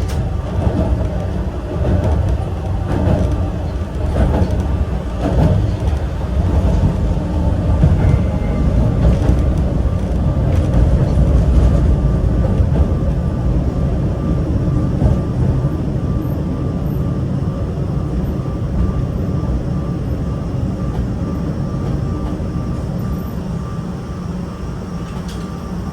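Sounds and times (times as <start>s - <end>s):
train traction motors: 0.0s - 25.9s
train wheels rumbling on rail: 0.0s - 25.9s.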